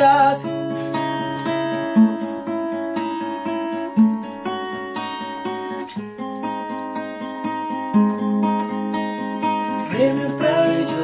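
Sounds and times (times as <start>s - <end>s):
acoustic guitar plucked chords: 0.0s - 11.0s.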